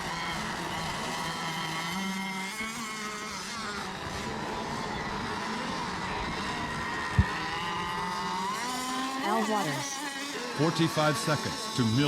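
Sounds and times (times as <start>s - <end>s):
rc boat motors whining: 0.0s - 12.0s.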